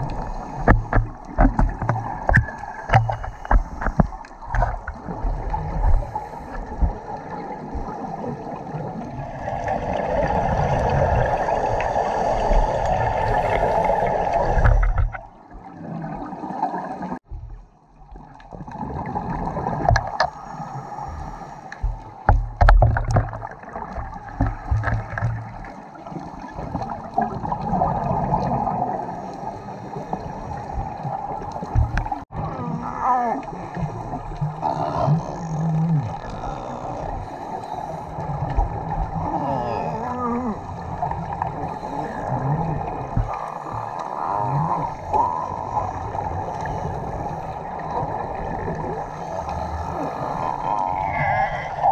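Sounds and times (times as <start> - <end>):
underwater bubbling: 0.0 - 51.9.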